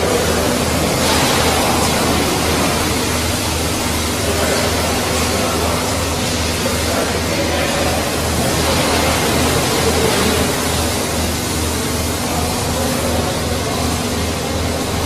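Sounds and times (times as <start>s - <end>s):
machine throbbing: 0.0s - 15.0s.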